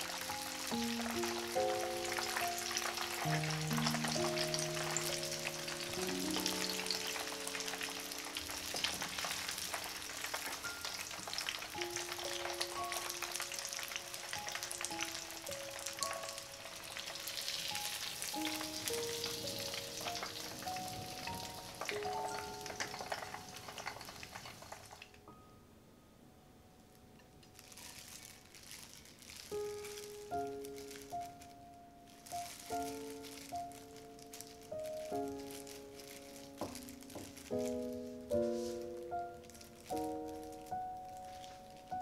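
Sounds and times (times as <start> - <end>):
oil crackling and sizzling: 0.0 - 25.3, 27.1 - 42.0
soft background music: 0.0 - 42.0.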